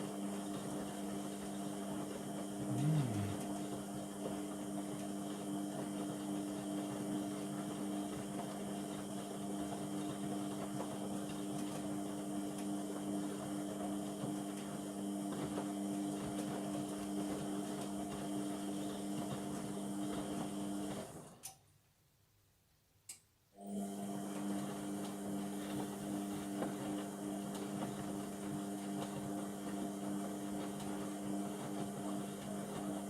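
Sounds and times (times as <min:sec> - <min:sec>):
washing machine humming: 0:00.0 - 0:21.4, 0:23.6 - 0:33.0.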